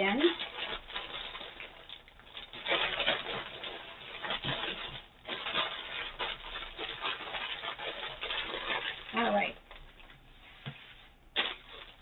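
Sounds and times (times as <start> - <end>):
plastic packaging crinkling: 0.0 - 10.3, 11.3 - 12.0.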